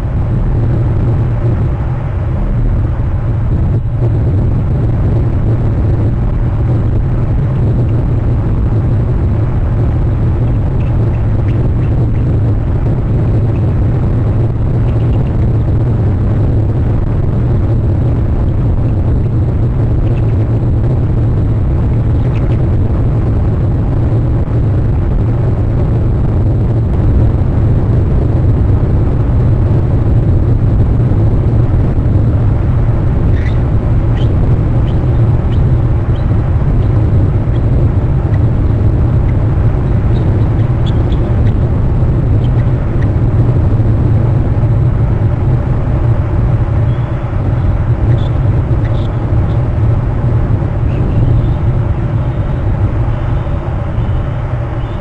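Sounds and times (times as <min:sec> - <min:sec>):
loud low rumble: 0:00.0 - 0:55.0.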